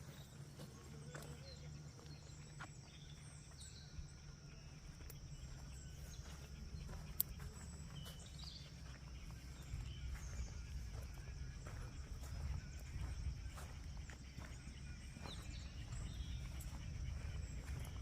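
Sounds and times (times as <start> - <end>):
bird chirps: 0.0 - 18.0
high insect drone: 0.0 - 18.0.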